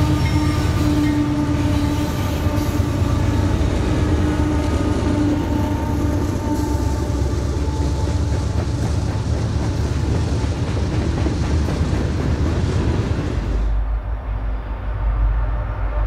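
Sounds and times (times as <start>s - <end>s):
diesel locomotive tone: 0.0s - 16.0s
train wheels rumbling and clacking: 0.0s - 16.0s.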